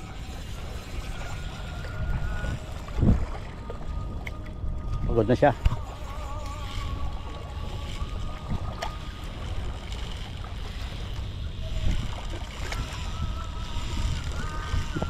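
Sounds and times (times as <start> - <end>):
small waves lapping: 0.0 - 15.0
wind on microphone: 0.0 - 15.0.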